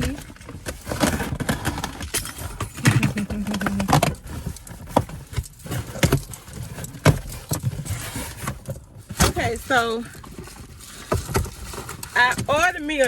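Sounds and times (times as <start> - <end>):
clicks scrapes and rattles: 0.0 - 12.7.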